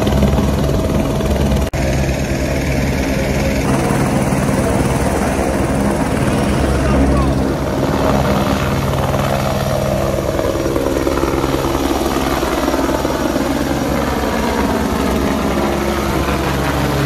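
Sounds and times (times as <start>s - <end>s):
aircraft engine drone: 0.0s - 17.0s.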